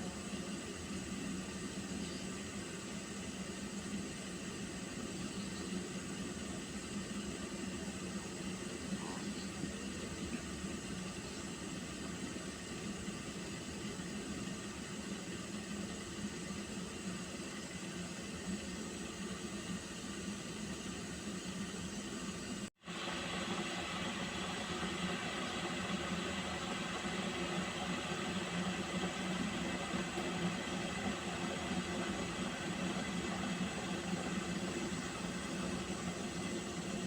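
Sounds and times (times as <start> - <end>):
water hissing in a pot: 0.0 - 37.0.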